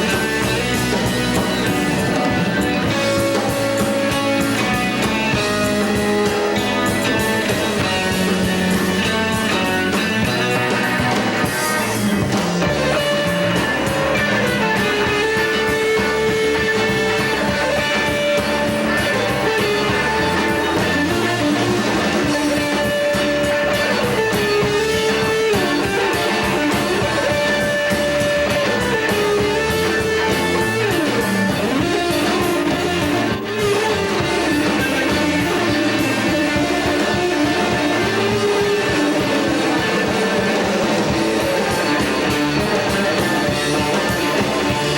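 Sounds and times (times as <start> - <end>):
rock music with electric guitars: 0.0 - 44.9.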